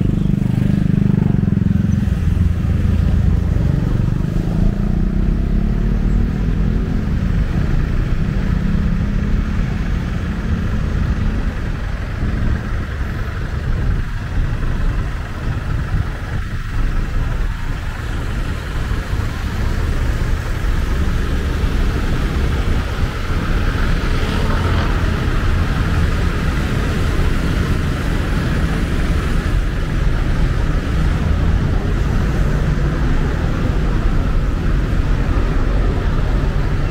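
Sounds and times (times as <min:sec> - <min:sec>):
cars and motorbikes passing: 0:00.0 - 0:36.9.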